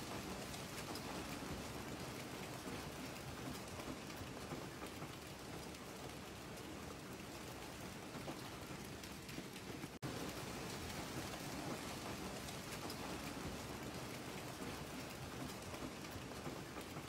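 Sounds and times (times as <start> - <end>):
hail and rain pelting roof: 0.0 - 17.0.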